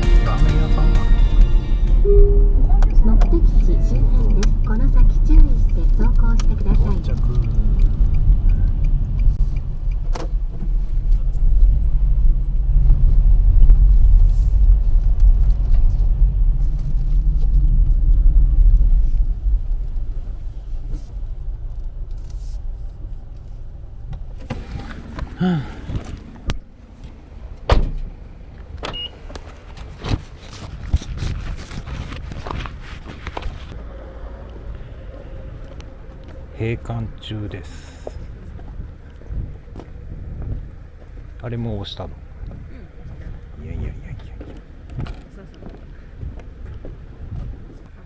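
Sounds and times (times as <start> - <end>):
car cabin road noise: 0.0 - 48.0.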